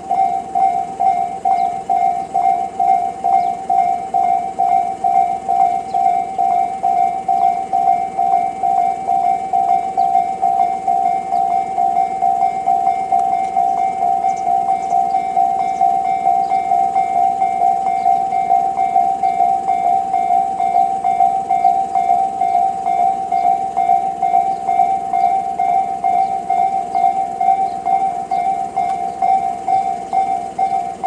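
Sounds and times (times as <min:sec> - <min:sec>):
level crossing bell dinging: 0:00.0 - 0:31.0.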